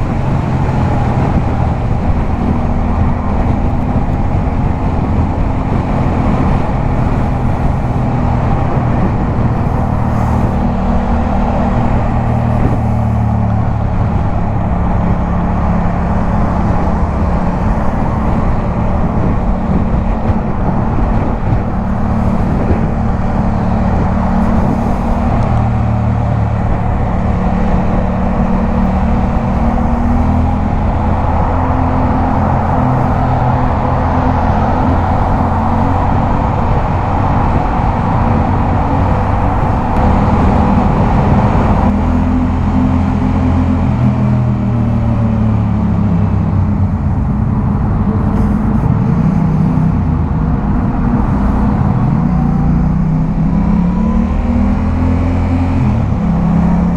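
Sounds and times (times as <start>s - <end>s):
motorcycle engine at speed: 0.0s - 56.9s
wind noise: 0.0s - 56.9s.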